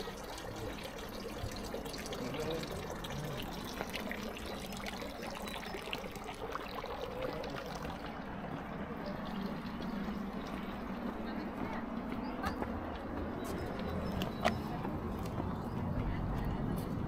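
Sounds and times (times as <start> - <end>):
fountain water trickling into basin: 0.0 - 15.8.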